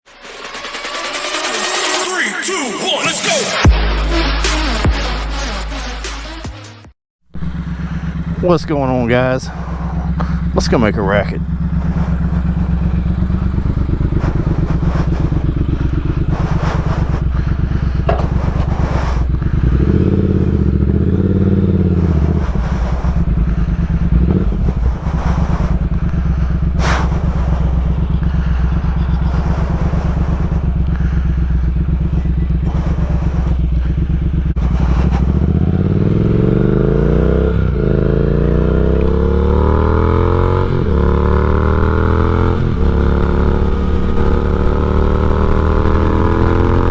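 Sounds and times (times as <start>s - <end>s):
motorcycle engine idling and accelerating: 3.6s - 46.9s.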